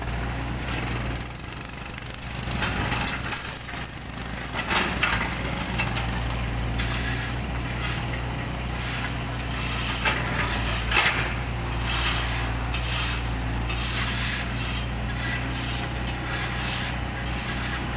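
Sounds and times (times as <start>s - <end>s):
tools scraping road surface: 0.0s - 17.9s.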